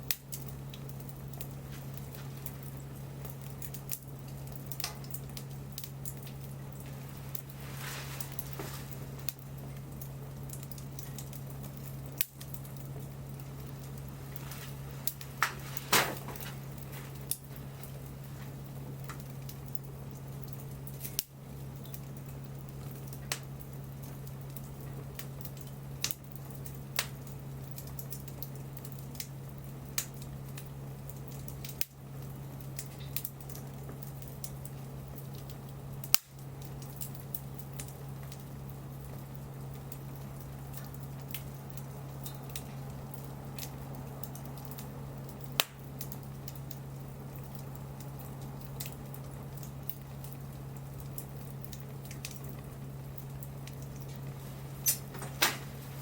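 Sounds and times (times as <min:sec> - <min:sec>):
steady low hum: 0:00.0 - 0:56.0
wood fire crackling: 0:00.0 - 0:56.0.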